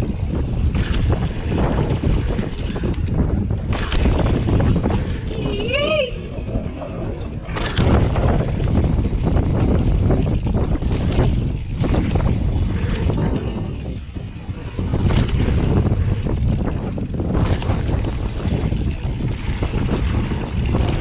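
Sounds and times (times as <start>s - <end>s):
bike tyres rumbling and clattering: 0.0s - 21.0s
wind rushing over microphone: 0.0s - 21.0s.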